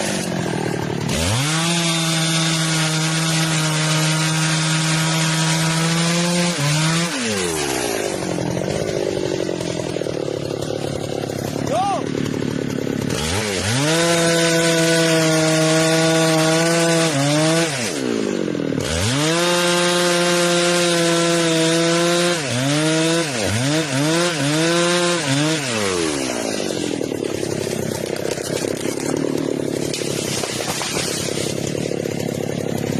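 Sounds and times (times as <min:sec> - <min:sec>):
chainsaw cutting wood: 0:00.0 - 0:32.9
chainsaw engine idling: 0:00.0 - 0:32.9.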